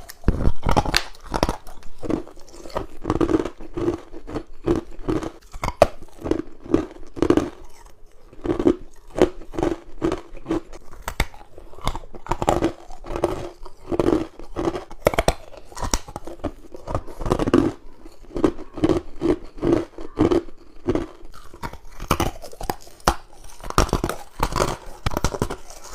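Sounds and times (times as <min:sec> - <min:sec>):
crunching and chewing ice: 0:00.0 - 0:25.9.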